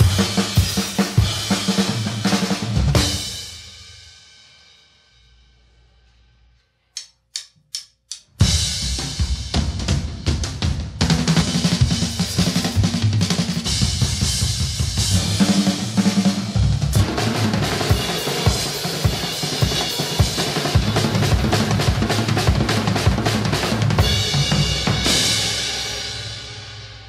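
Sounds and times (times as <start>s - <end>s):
drum kit played hard: 0.0s - 4.1s, 8.1s - 27.0s.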